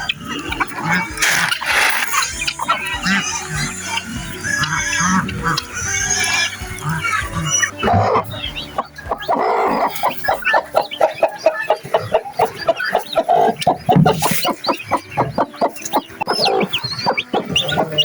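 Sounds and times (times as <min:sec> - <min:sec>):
baby chicks peeping: 0:00.0 - 0:18.0
chickens clucking: 0:00.0 - 0:18.0.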